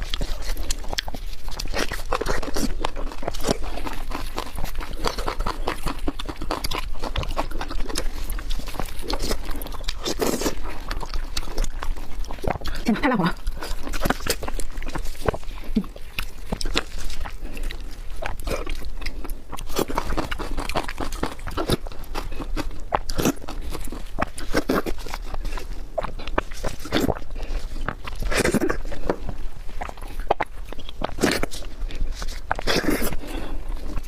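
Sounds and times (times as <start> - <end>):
crunching and chewing food: 0.0 - 34.0.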